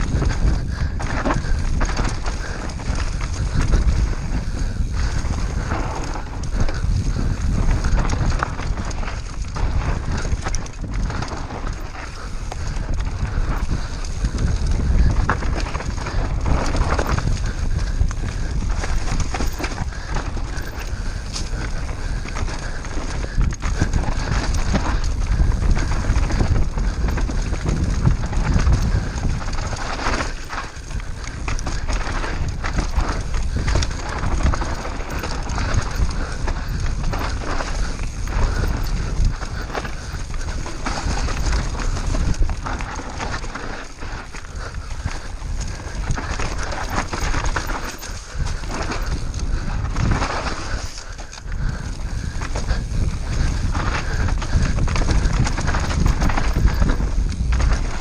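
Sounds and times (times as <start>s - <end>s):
bike frame rattling: 0.0s - 58.0s
bike tyres on dirt: 0.0s - 58.0s
wind buffeting microphone: 0.0s - 58.0s.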